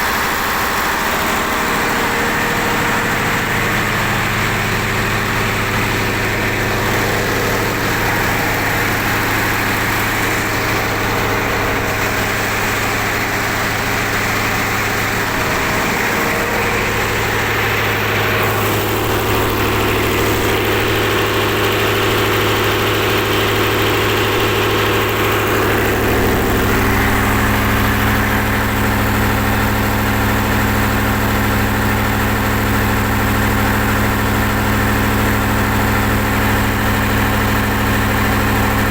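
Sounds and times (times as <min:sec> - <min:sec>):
diesel generator engine running: 0:00.0 - 0:38.9.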